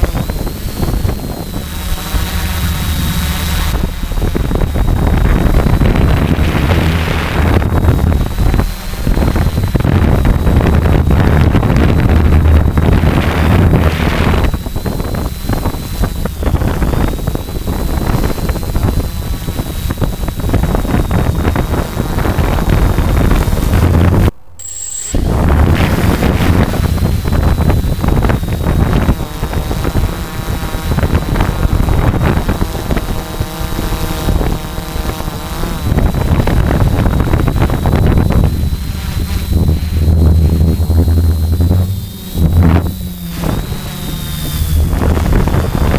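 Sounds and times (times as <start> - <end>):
drone high whine: 0.0 - 45.9
prop wash buffeting microphone: 0.0 - 45.9.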